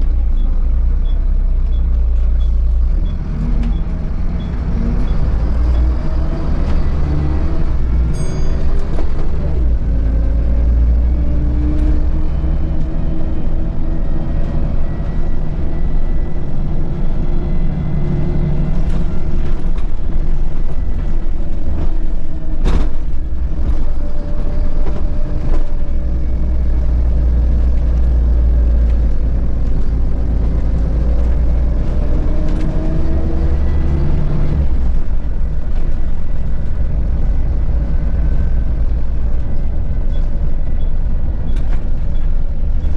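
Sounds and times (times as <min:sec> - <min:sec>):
bus engine rumbling: 0:00.0 - 0:42.9.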